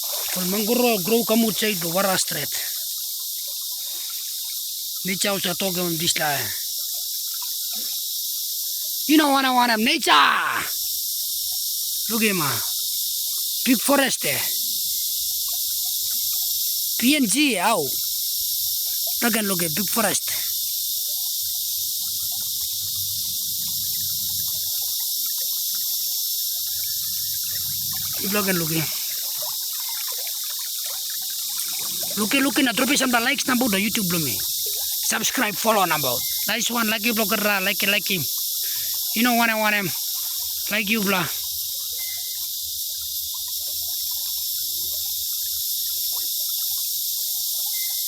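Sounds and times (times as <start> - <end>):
insects droning: 0.0 - 48.0.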